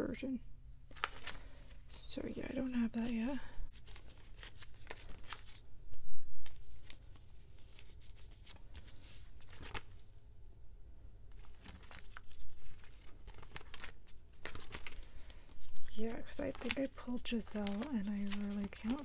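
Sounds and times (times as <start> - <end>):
plastic sleeves crinkling: 0.8 - 5.7, 6.4 - 10.1, 11.3 - 19.0.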